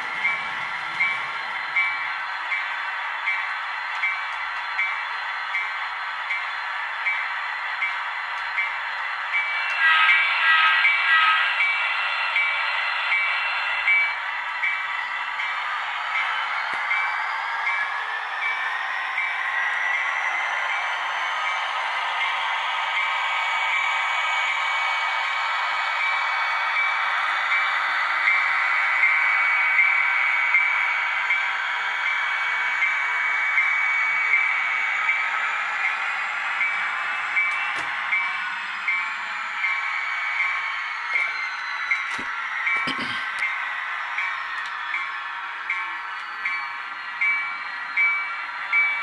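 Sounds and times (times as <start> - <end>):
model locomotive bell ringing: 0.0 - 49.0.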